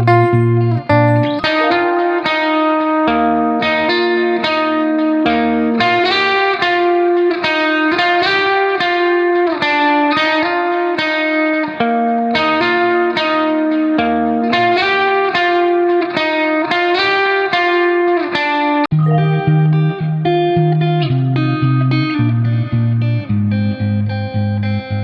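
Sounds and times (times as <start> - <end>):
plucked guitar melody: 0.0 - 16.4, 17.0 - 24.9.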